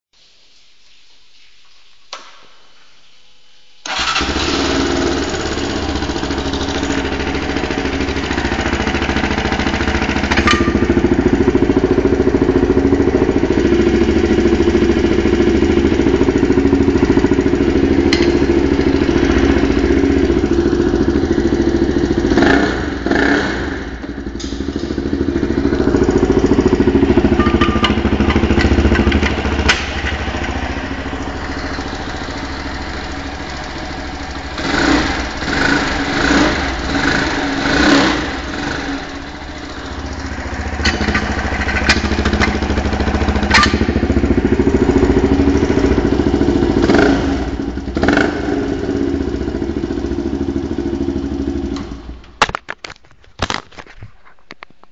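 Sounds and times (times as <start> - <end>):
motorcycle engine running: 3.9 - 52.4.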